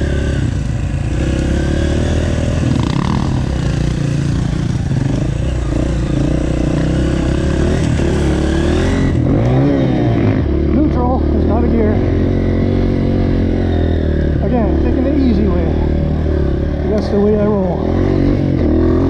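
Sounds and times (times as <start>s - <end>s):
dirt bike engine revving: 0.0s - 19.0s
dirt bike engine running steadily: 0.0s - 19.0s.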